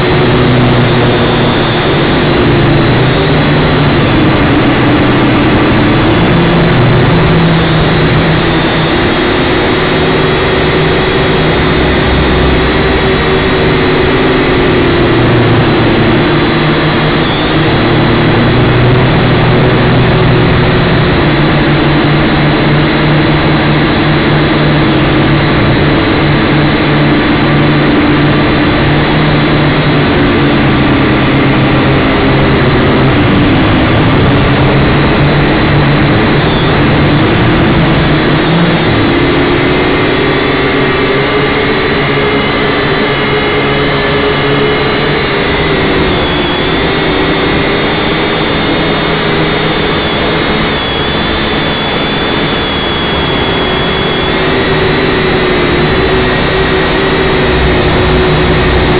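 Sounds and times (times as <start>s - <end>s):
quadcopter motors and propellers: 0.0s - 58.9s.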